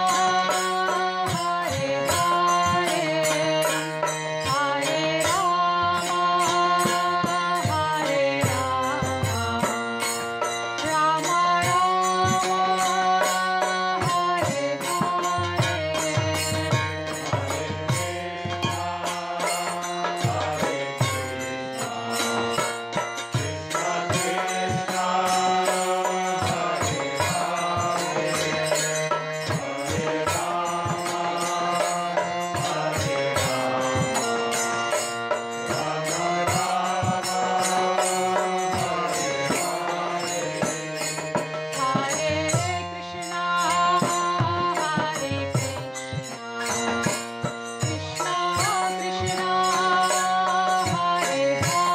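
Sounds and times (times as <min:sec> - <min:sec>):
steady held drone: 0:00.0 - 0:51.8
chanted vocals: 0:00.0 - 0:51.9
light percussion: 0:00.0 - 0:51.9.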